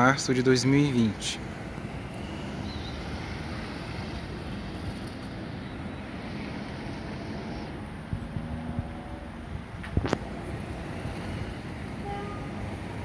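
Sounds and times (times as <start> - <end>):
distant jet engine noise: 0.3 - 13.0.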